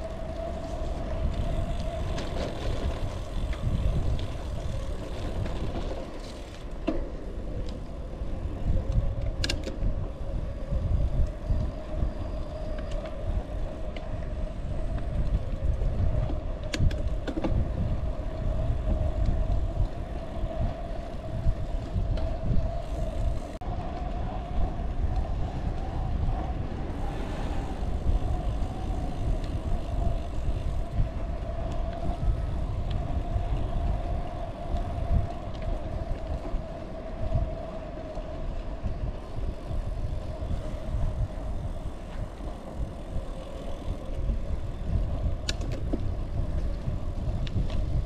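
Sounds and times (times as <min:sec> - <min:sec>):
bike tyres rolling on trail: 0:00.0 - 0:48.0
wind buffeting microphone: 0:00.0 - 0:48.0.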